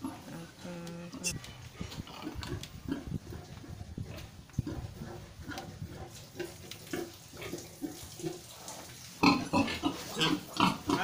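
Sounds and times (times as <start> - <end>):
busy pig sounds: 0.0 - 8.5, 9.2 - 11.0.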